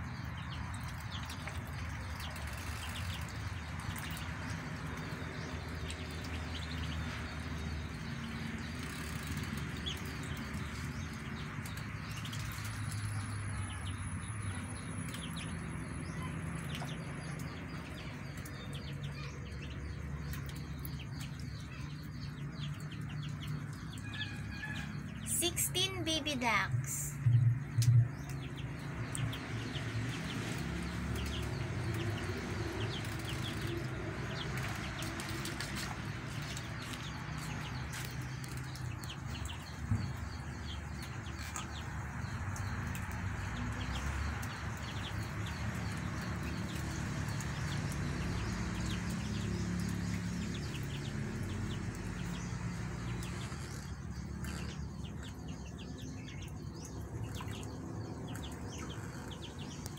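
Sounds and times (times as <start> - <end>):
ducks scuffling and pecking: 0.0 - 26.4, 28.2 - 59.9
ducklings peeping: 0.0 - 59.9.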